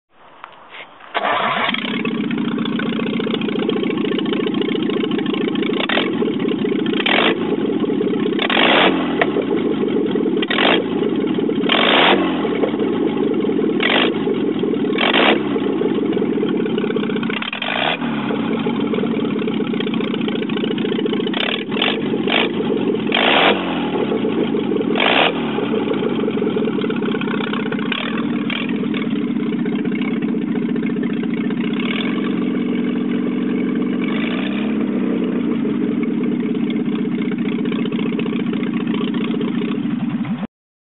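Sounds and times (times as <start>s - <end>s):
car engine without exhaust revving: 0.3s - 40.5s.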